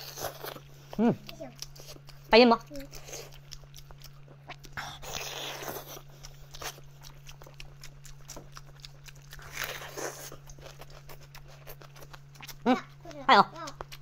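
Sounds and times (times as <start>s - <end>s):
close chewing: 0.0s - 14.0s.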